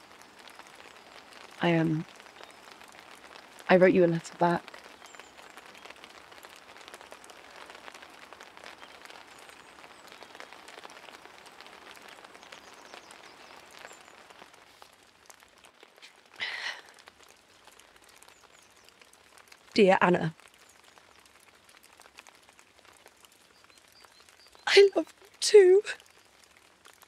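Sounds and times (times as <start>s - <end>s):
light rain pattering: 0.0s - 27.0s.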